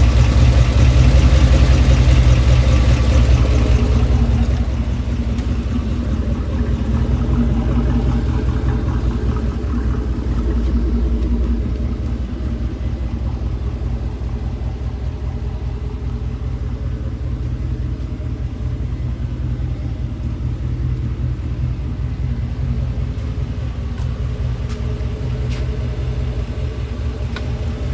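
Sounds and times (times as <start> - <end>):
engine lifter ticking: 0.0 - 27.9
pickup engine idling: 0.0 - 27.9.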